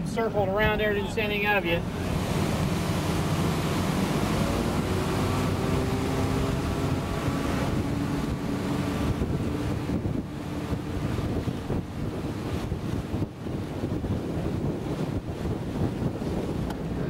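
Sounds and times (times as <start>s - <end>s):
motorboat engine: 0.0s - 17.0s
water rushing in wake: 0.0s - 17.0s
wind buffeting microphone: 0.0s - 17.0s.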